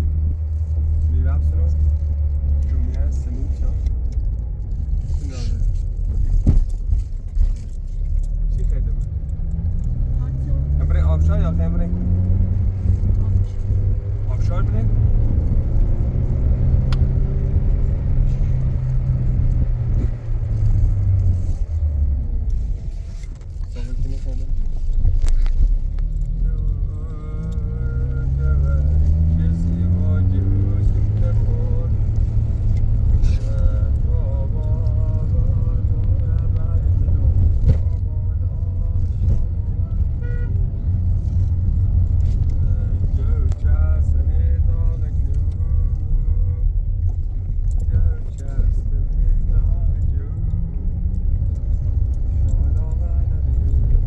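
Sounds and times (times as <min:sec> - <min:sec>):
engine rumble: 0:00.0 - 0:54.0.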